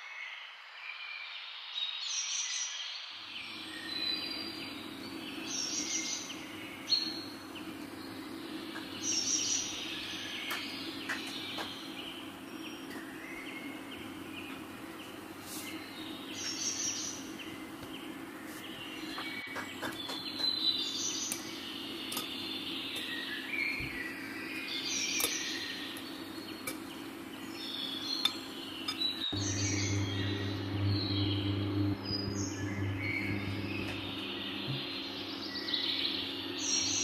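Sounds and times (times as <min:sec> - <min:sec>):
small birds chirping: 0:03.3 - 0:37.0
low steady hum: 0:03.4 - 0:37.0.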